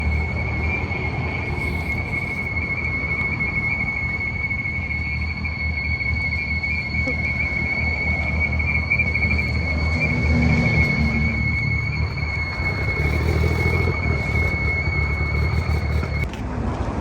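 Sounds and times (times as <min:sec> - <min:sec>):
car engine idling: 0:00.0 - 0:16.3
high-pitched vacuum whistle: 0:00.0 - 0:16.3.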